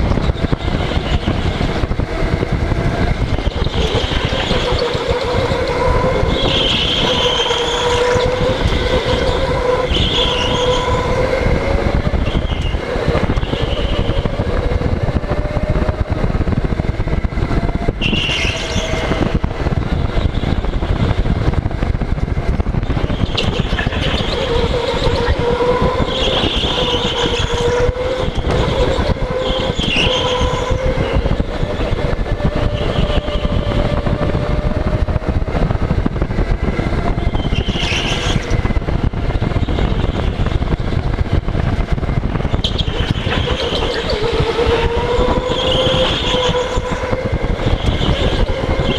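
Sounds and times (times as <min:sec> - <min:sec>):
go-kart motor whine: 0:00.0 - 0:48.9
wind rumble on camera: 0:00.0 - 0:48.9.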